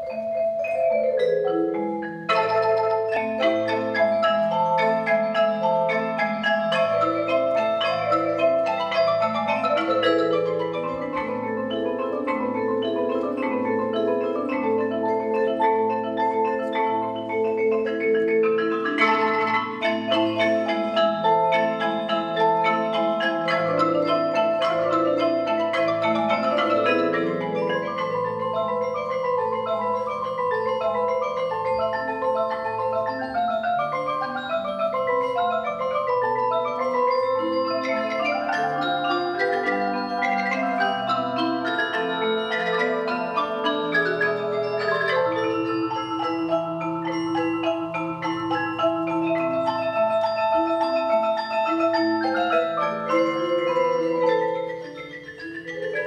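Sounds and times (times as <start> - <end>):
marimbas and vibraphones playing: 0.0 - 56.0.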